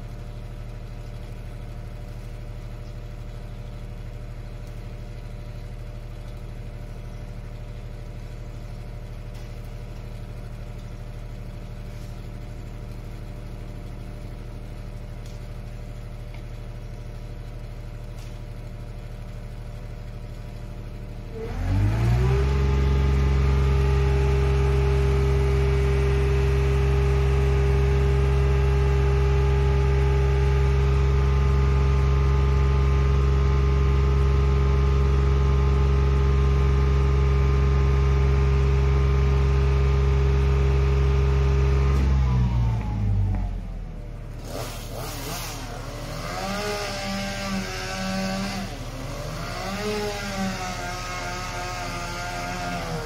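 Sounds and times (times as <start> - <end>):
truck engine idling and revving: 0.0 - 53.0.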